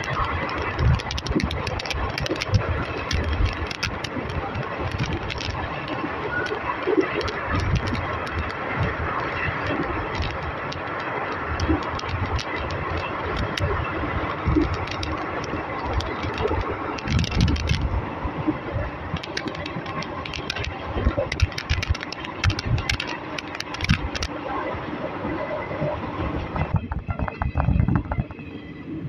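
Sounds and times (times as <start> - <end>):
train wheels rumbling and rattling: 0.0 - 25.0, 25.7 - 28.8.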